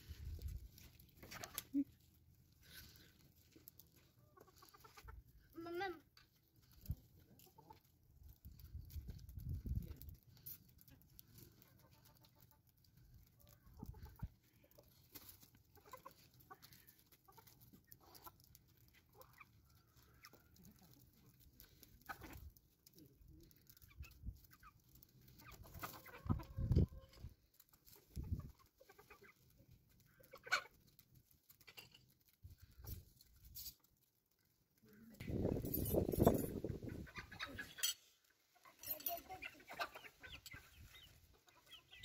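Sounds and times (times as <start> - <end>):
chickens clucking: 0.2 - 5.6, 6.4 - 34.0, 35.1 - 42.0.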